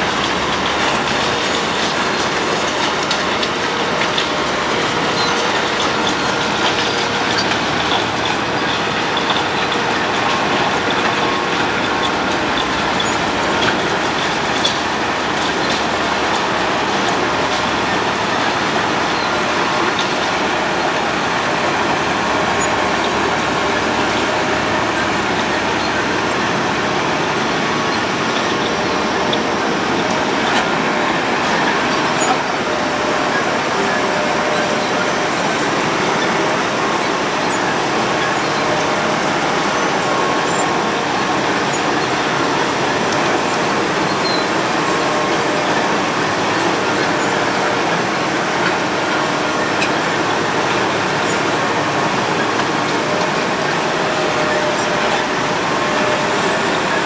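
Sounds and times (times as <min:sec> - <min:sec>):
diesel engine running: 0:00.0 - 0:57.0
drum grinding asphalt: 0:00.0 - 0:57.0.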